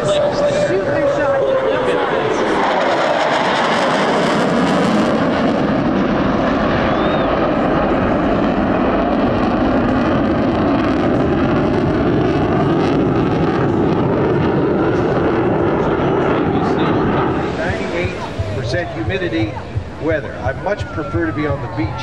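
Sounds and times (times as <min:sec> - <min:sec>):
jet engines flying past: 0:00.0 - 0:22.0.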